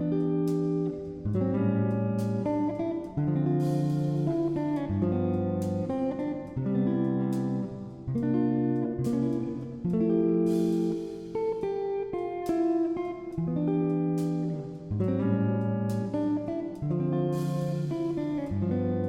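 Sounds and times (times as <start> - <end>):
guitar strumming chords: 0.0 - 19.0.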